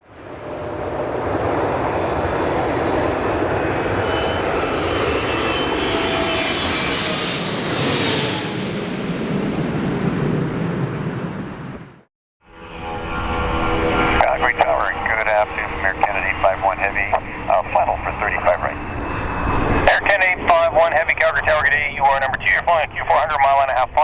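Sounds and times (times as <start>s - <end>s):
jet engines roaring and whining: 0.0s - 12.1s, 12.8s - 24.0s.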